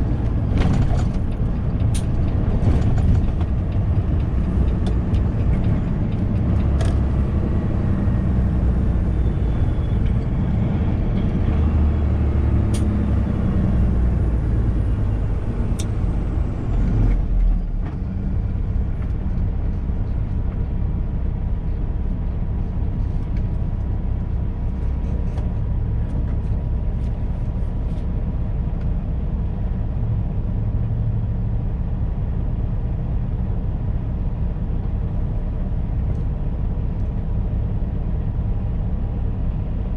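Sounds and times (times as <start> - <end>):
road and tyre noise: 0.0 - 39.9
truck diesel engine under load: 0.0 - 39.9.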